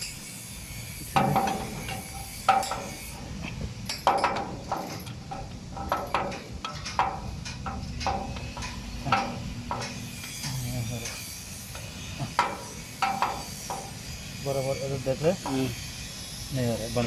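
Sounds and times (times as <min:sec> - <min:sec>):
metal clinks and knocks: 0:01.0 - 0:16.1.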